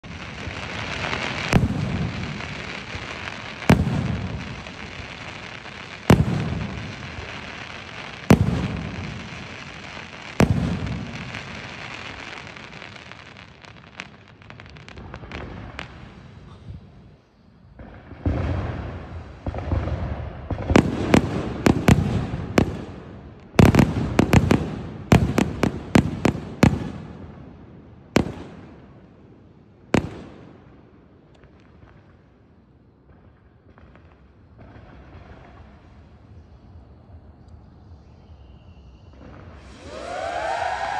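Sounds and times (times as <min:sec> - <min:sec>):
firework bangs: 0:00.0 - 0:29.2, 0:29.8 - 0:37.3, 0:38.1 - 0:40.9.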